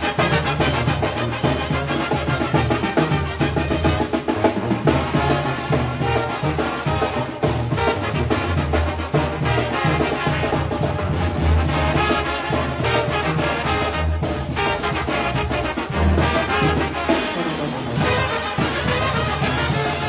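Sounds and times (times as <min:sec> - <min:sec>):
brass band with drums playing: 0:00.0 - 0:20.0.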